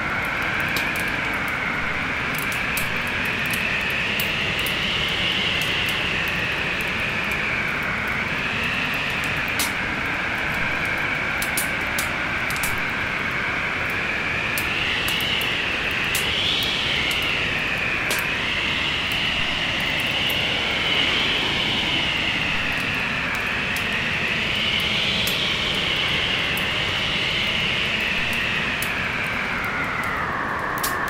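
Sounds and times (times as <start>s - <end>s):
storm wind howling: 0.0s - 31.0s
wood fire crackling: 0.0s - 31.0s.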